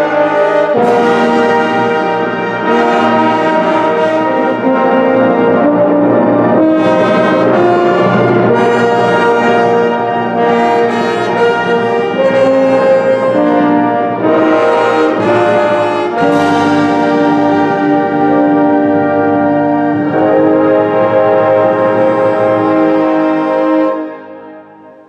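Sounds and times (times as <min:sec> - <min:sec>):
wind band playing loud chords: 0:00.0 - 0:25.0.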